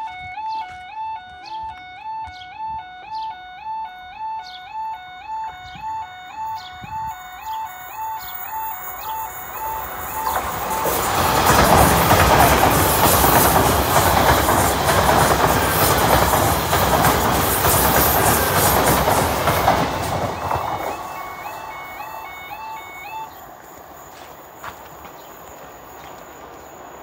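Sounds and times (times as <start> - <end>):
two-tone warbling crossing alarm: 0.0 - 23.8
train passing: 5.4 - 27.0.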